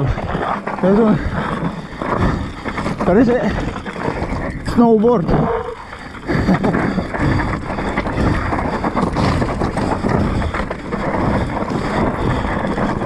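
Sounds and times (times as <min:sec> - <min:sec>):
bike rattling over bumps: 0:00.0 - 0:13.0
tyres crunching over stones: 0:00.0 - 0:13.0.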